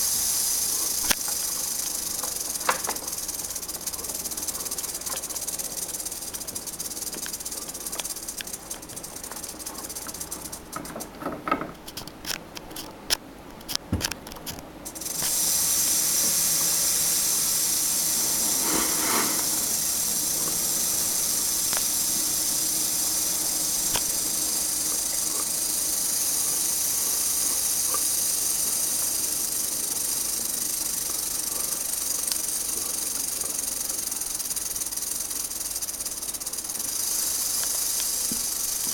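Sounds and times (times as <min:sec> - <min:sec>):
rattlesnake rattling: 0:00.0 - 0:12.9, 0:14.7 - 0:38.9.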